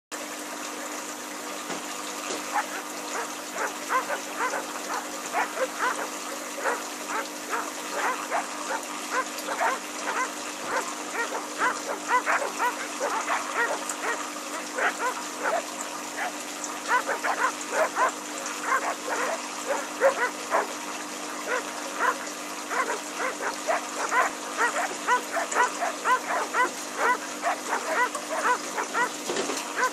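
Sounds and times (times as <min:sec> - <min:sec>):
aquarium air stone bubbling: 0:01.9 - 0:29.9.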